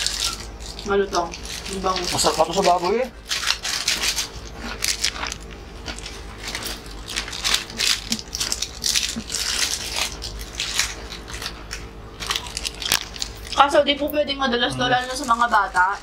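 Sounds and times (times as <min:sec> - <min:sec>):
crunching and chewing snacks: 0:00.0 - 0:13.8, 0:14.7 - 0:16.0
plastic packet crinkling: 0:00.0 - 0:13.8, 0:14.9 - 0:16.0.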